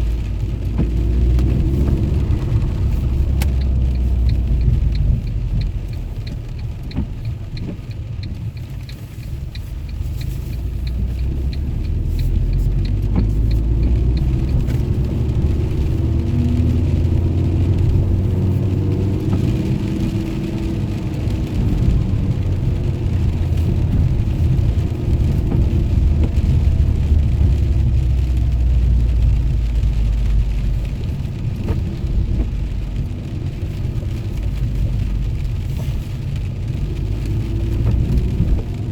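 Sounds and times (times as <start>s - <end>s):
car engine running: 0.0s - 38.9s
road noise: 0.0s - 38.9s.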